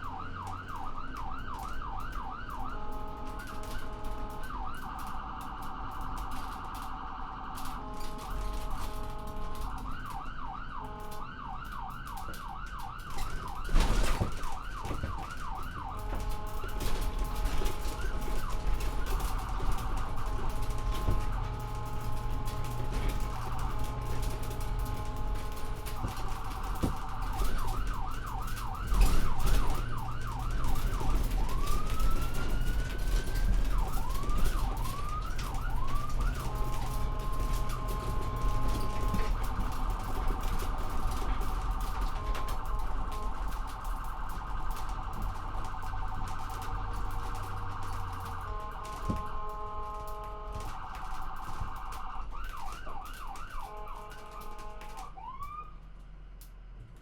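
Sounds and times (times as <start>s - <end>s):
siren in fast yelp mode: 0.0s - 55.8s.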